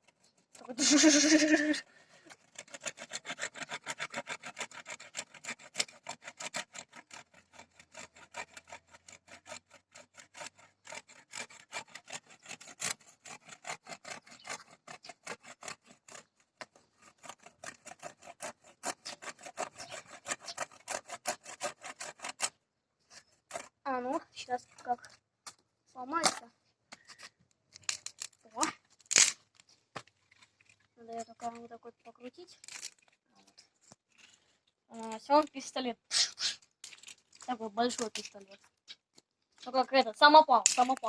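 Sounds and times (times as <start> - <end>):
hand saw cutting wood: 0.0 - 25.0, 27.9 - 29.4, 31.1 - 31.8, 34.9 - 39.0, 39.6 - 41.0.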